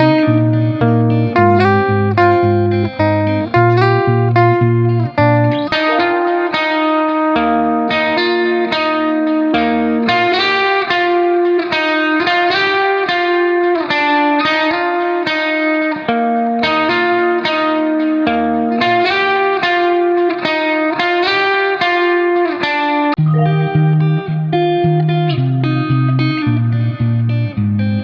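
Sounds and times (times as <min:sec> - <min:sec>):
plucked guitar notes: 0:00.0 - 0:20.7, 0:23.2 - 0:27.8.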